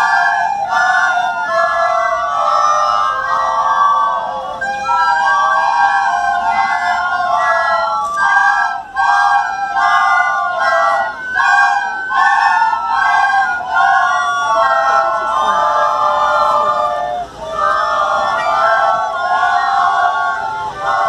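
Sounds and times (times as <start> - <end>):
children playing recorders: 0.0 - 21.0.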